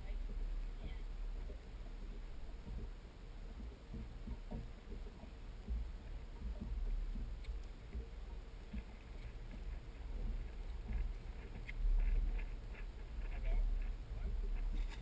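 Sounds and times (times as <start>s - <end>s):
faint ticks: 0.0s - 15.0s
wind and water rumble: 0.0s - 15.0s.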